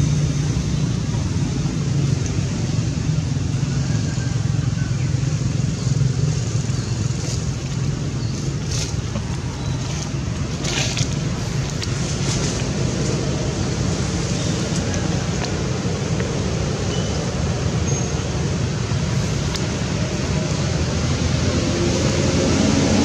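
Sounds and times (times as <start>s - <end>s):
low outdoor rumble: 0.0s - 21.6s.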